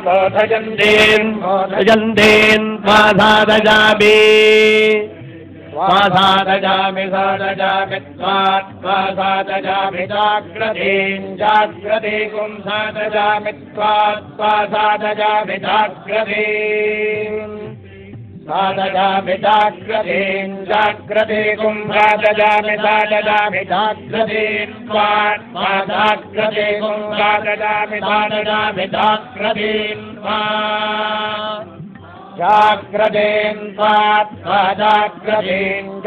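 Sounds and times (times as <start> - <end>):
mantras being chanted: 0.0 - 36.0.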